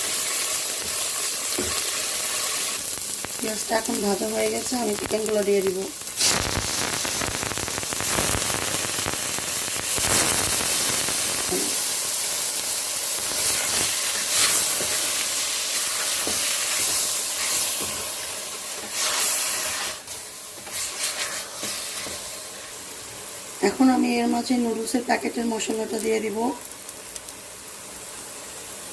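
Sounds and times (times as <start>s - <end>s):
chicken sizzling in hot oil: 0.0s - 28.9s.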